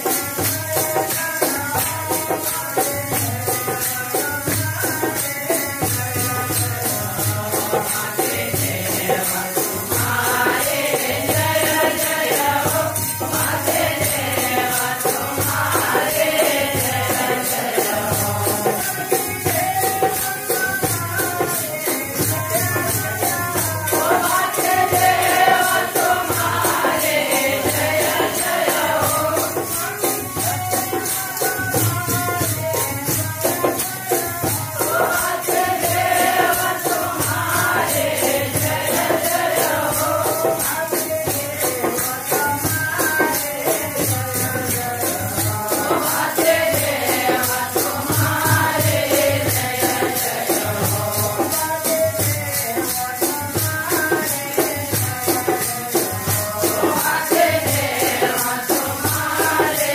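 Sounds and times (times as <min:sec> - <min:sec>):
small hand cymbals clashing: 0:00.0 - 0:59.9
voices singing devotional song: 0:00.0 - 0:59.9.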